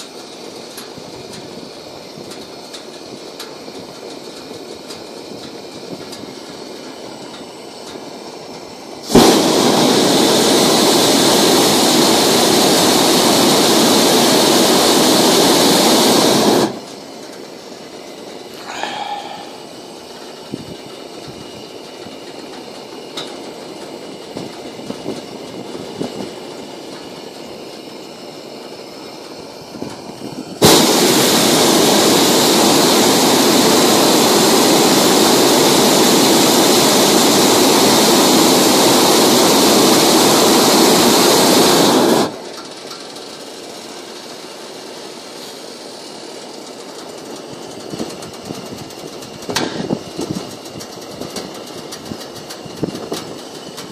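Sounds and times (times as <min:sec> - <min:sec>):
low hiss: 0:00.0 - 0:49.9
propane burner roaring: 0:00.0 - 0:53.9.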